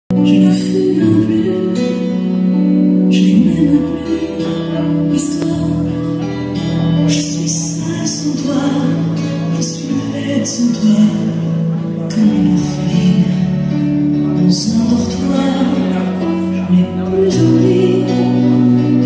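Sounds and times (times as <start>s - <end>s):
music with singing: 0.1s - 19.0s.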